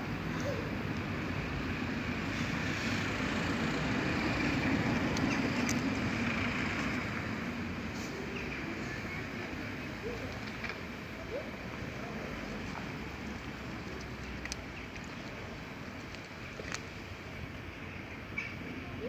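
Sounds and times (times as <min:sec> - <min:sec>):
road vehicle passing: 0:00.0 - 0:19.0.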